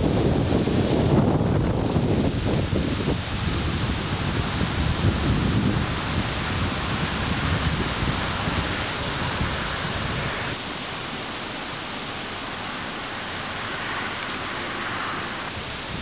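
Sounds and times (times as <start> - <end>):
wind buffeting microphone: 0.0 - 10.6, 11.2 - 16.0
steady hiss: 0.0 - 16.0.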